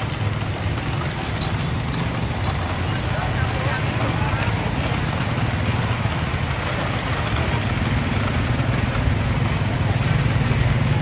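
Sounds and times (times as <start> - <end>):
motorcycle engines humming: 0.0 - 11.0.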